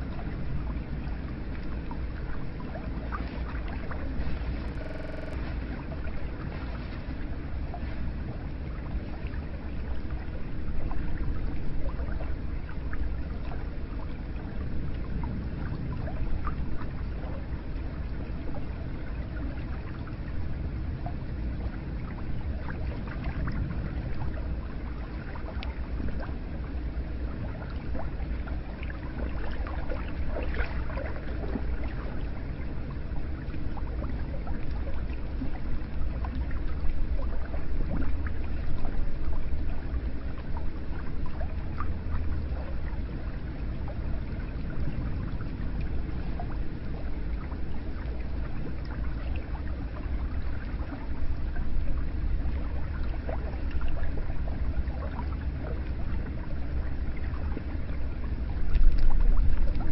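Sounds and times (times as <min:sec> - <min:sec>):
water splashes and drips: 0:00.1 - 0:04.8, 0:05.4 - 0:17.4, 0:21.0 - 0:43.3, 0:44.0 - 0:59.9.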